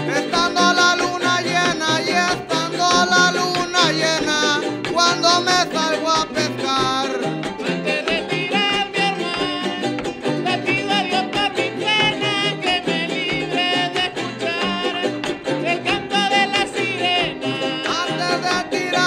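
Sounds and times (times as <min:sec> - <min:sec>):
fast guitar strumming: 0:00.0 - 0:19.0
man singing folk song: 0:00.0 - 0:19.0.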